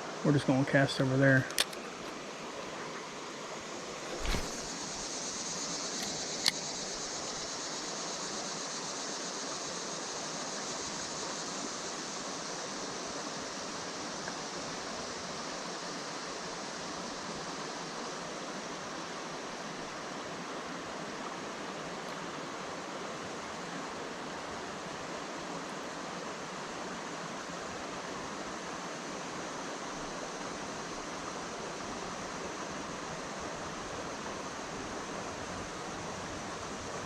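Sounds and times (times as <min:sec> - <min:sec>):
creek water flowing: 0:00.0 - 0:37.0.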